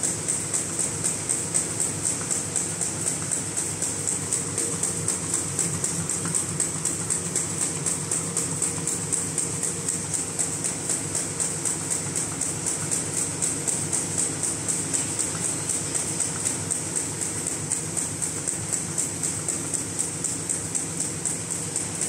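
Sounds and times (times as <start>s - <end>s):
machine clattering rhythmically: 0.0s - 22.0s.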